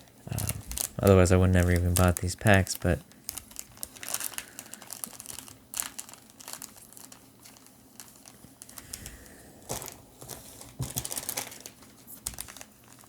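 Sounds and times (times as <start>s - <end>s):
foil wrappers crinkling: 0.0s - 13.0s
wrappers tearing: 0.0s - 13.0s.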